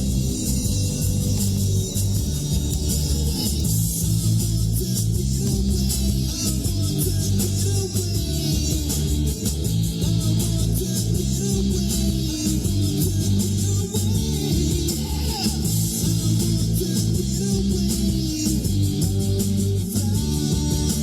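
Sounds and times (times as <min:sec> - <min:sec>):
rock music on car stereo: 0:00.0 - 0:21.0.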